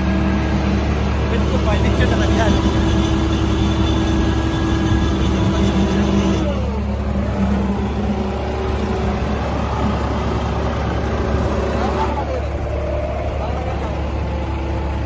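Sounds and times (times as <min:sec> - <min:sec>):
tractor engines under load: 0:00.0 - 0:15.0.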